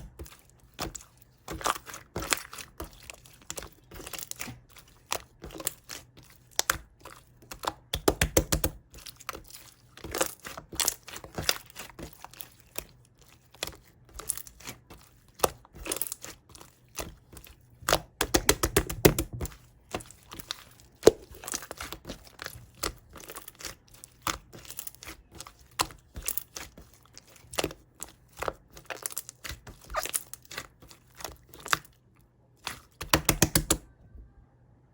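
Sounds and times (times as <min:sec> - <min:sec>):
honeycomb crackling while chewed: 0:00.0 - 0:33.2.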